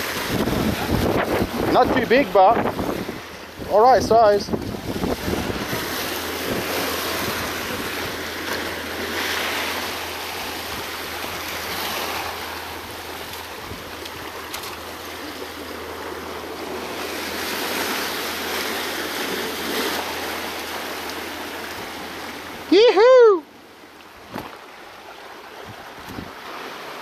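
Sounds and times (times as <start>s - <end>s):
sea waves washing over rocks: 0.0s - 27.0s.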